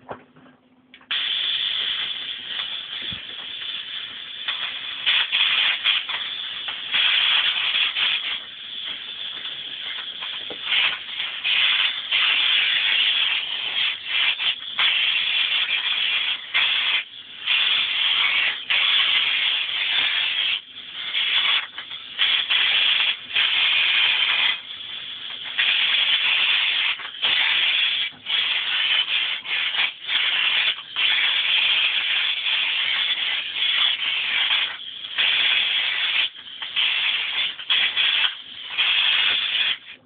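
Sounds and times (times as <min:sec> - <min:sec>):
tesla coil sparking hiss: 0:01.0 - 0:40.0.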